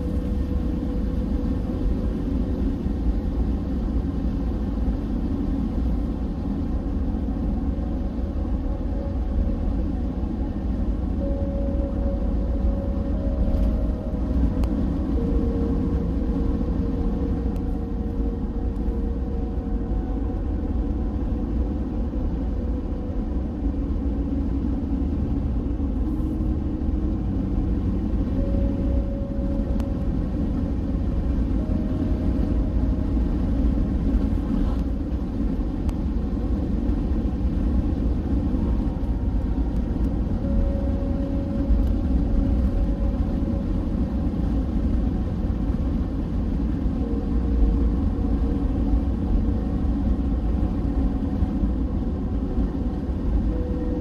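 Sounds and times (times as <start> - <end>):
car engine and road noise: 0.0 - 54.0
faint hum shifting pitch: 0.0 - 54.0.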